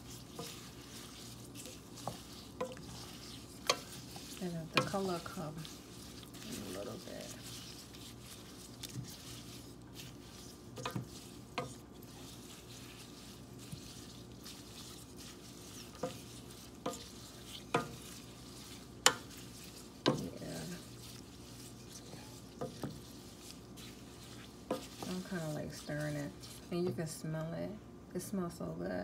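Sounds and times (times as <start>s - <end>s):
wooden spoon stirring water in pot: 0.0s - 27.3s.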